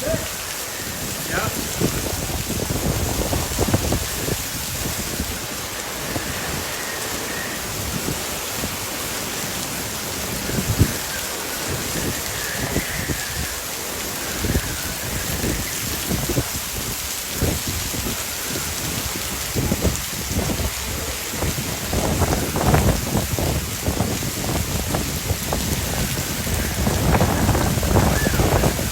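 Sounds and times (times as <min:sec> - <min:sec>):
heavy rain pouring: 0:00.0 - 0:28.9
wind gusts buffeting microphone: 0:00.0 - 0:28.9.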